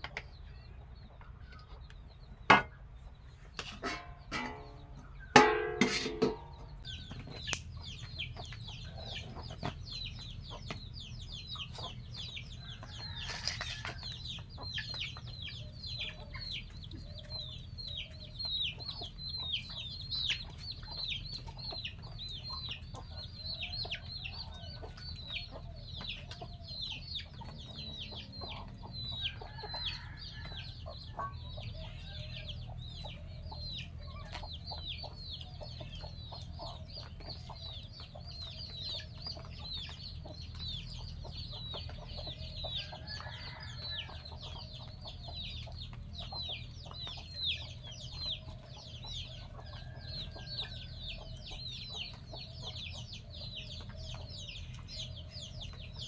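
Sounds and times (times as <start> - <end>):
chicks peeping: 0.0 - 5.5, 6.4 - 56.0
chickens clucking: 0.0 - 56.0.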